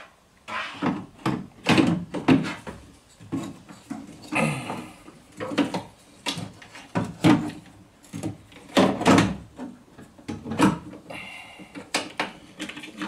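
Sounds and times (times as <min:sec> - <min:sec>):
knocks clicks and rattles of parts: 0:00.8 - 0:13.0.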